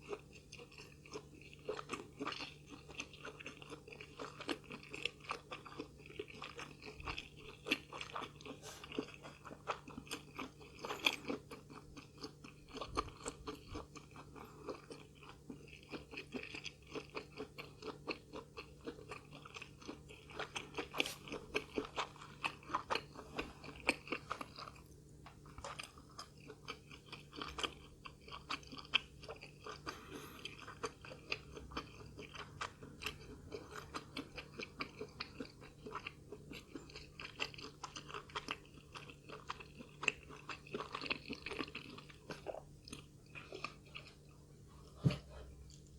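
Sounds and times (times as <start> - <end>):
crunchy chewing: 0.0 - 45.9.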